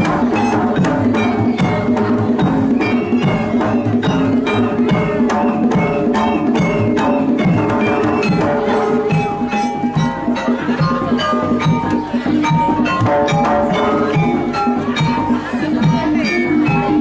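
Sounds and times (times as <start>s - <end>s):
gamelan music: 0.0s - 17.0s.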